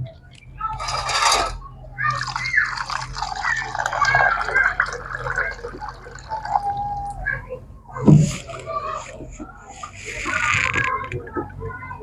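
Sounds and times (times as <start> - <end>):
water pouring and splashing: 0.7 - 11.5.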